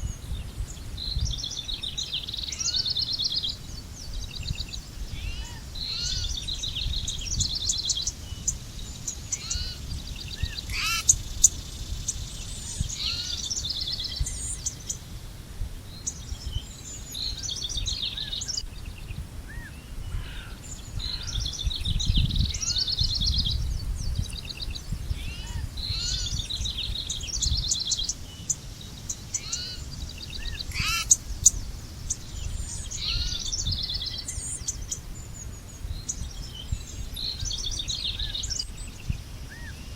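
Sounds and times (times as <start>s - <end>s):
birds singing: 0.0s - 15.1s, 15.8s - 39.9s.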